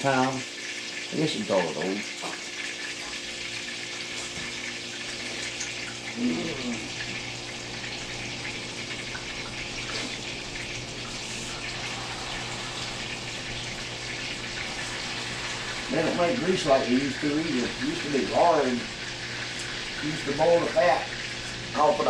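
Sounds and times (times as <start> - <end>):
burgers sizzling in a pan: 0.0 - 22.0.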